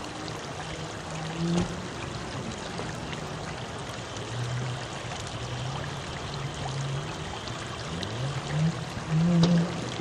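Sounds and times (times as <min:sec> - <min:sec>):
flood water rushing: 0:00.0 - 0:10.0.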